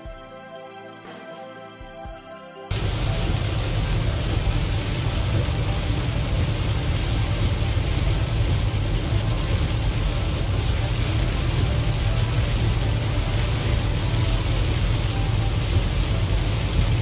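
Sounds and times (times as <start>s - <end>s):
heavy rain on vehicle roof: 2.7s - 17.0s
road and engine rumble: 2.7s - 17.0s.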